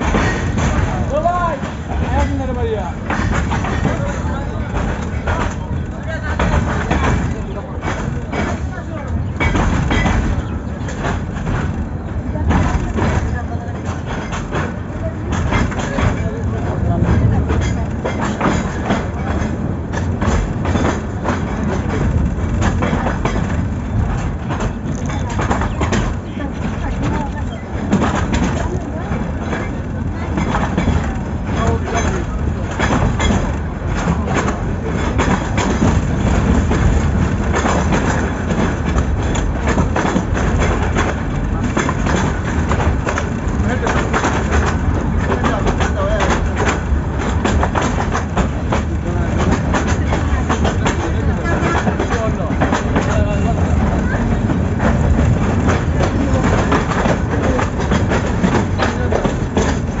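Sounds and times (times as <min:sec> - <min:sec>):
train rumbling on track: 0:00.0 - 1:00.0
wheels clacking on rails: 0:00.0 - 1:00.0.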